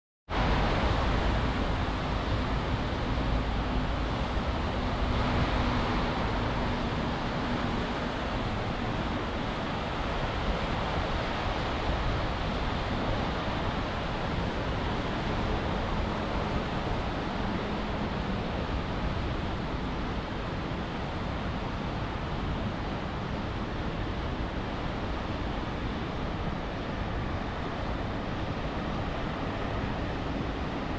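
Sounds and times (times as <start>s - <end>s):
heavy rain: 0.3s - 30.9s.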